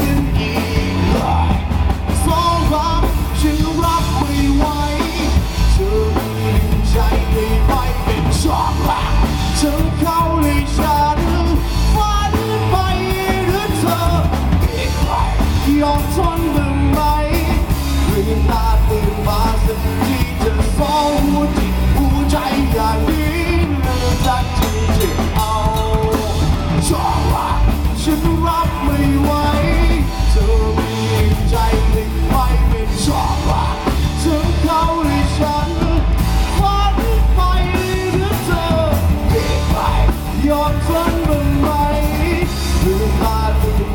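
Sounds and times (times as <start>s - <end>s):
rock music with singer: 0.0s - 43.9s.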